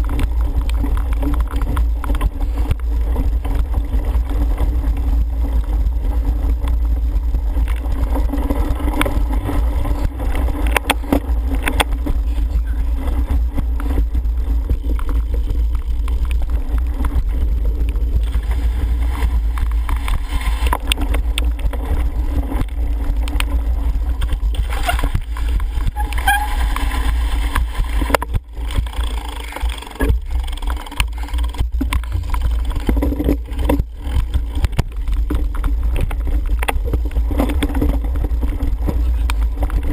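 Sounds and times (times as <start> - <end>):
bike clicks and knocks: 0.0 - 39.9
wind rumbling on microphone: 0.0 - 39.9.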